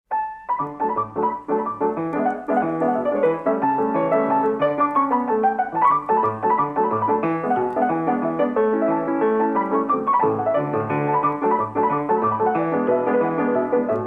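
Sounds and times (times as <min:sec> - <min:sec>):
piano melody: 0:00.1 - 0:14.0.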